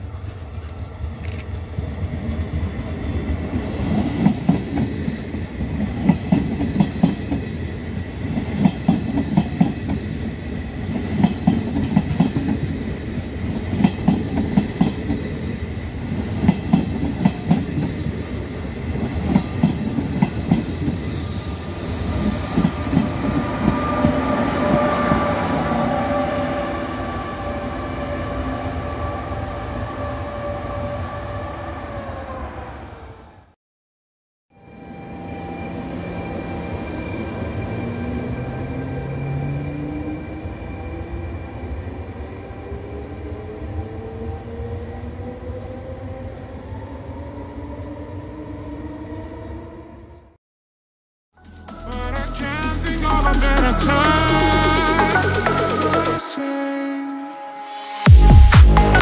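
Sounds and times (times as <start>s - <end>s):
electric locomotive whine: 0.0s - 33.5s, 34.6s - 50.4s.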